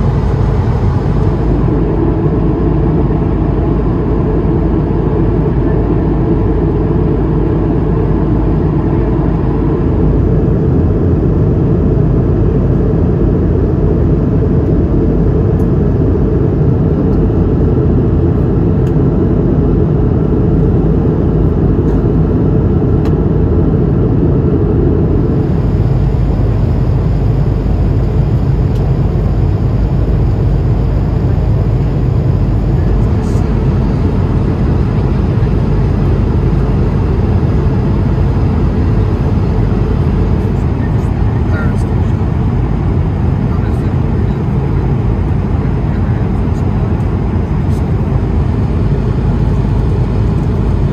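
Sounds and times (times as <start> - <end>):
airplane cabin roar: 0.0 - 50.9.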